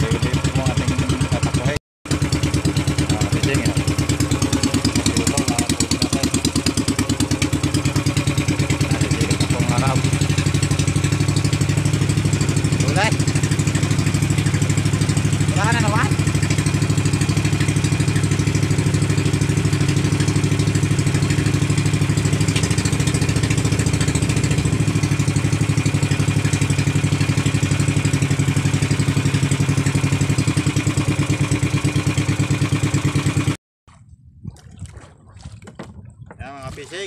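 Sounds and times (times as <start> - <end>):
small boat engine throbbing: 0.0 - 37.0.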